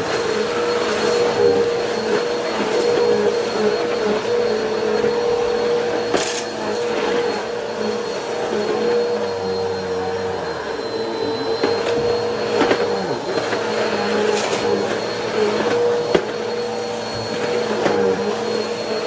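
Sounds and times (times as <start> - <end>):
vacuum cleaner on carpet: 0.0 - 19.0.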